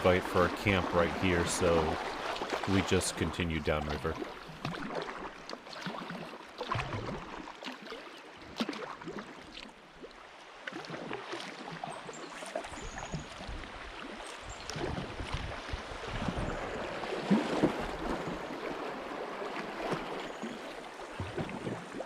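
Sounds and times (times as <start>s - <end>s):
paddle strokes splashing: 0.0s - 22.0s
small splashes and drips: 1.5s - 3.0s, 3.9s - 22.0s.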